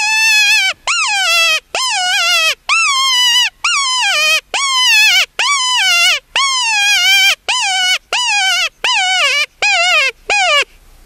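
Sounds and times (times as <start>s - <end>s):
coyote-style whining yelps: 0.0s - 10.7s.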